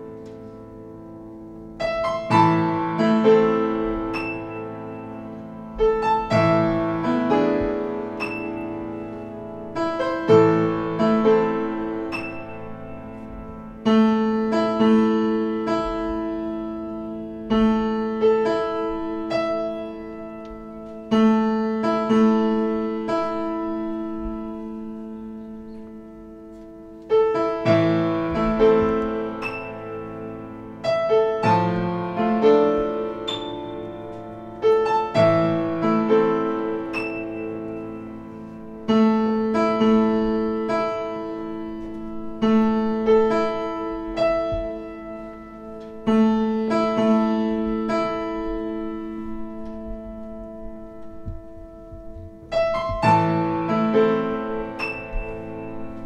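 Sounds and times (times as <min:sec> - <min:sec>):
piano chords ringing: 0:00.0 - 0:56.0.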